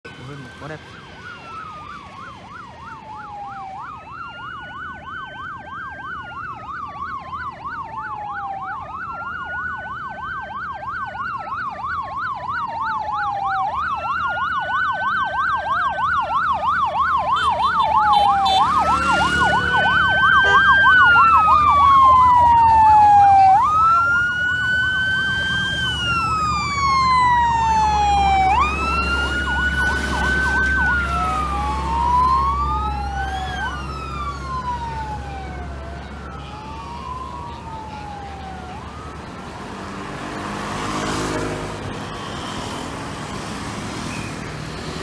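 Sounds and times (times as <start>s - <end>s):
motorcycle engines rumbling: 0.0s - 45.0s
siren wailing: 0.0s - 45.0s
siren yelping: 0.0s - 45.0s.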